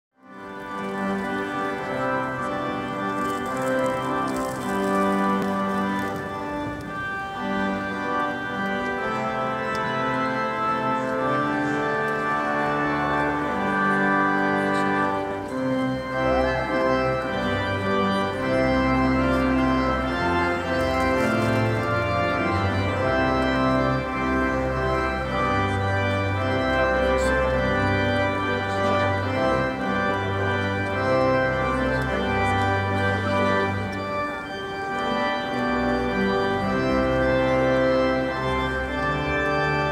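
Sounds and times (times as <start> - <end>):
organ sustained chords: 0.2 - 39.9
deep organ pedal bass notes: 0.3 - 39.9.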